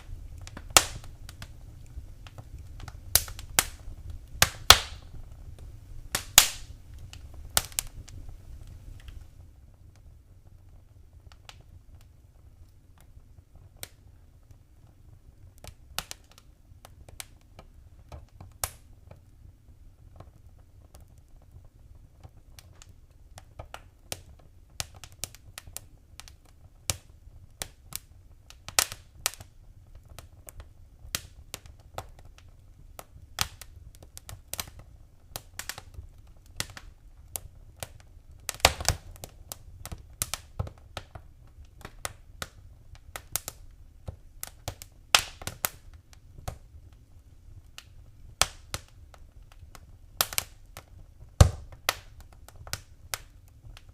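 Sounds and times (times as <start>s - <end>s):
low rumble of flames: 0.0s - 53.9s
wood fire crackling and popping: 0.0s - 53.9s.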